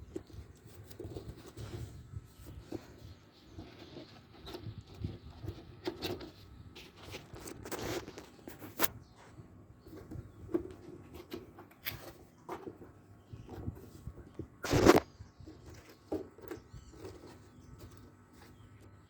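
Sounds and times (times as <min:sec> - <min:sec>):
packaging rustling and scraping: 0:00.0 - 0:19.0.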